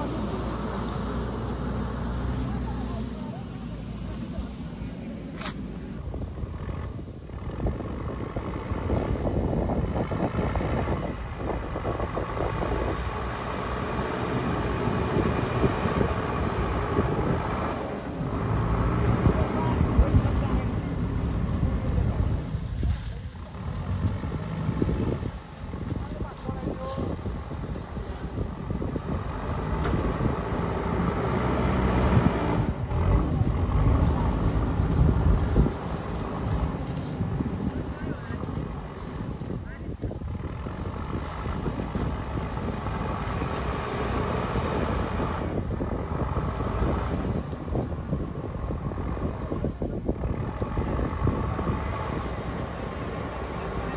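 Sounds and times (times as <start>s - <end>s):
engine running: 0.0s - 53.9s
wind noise on microphone: 5.4s - 53.9s.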